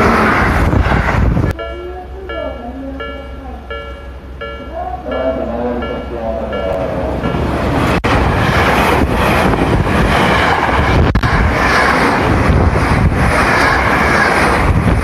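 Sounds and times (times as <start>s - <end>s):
electric train passing: 0.0s - 15.0s
wheels rushing on rail: 0.0s - 15.0s.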